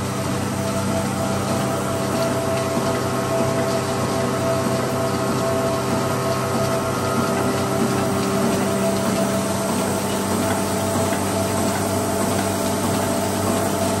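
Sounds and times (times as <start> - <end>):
wire drawing machine humming: 0.0 - 14.0.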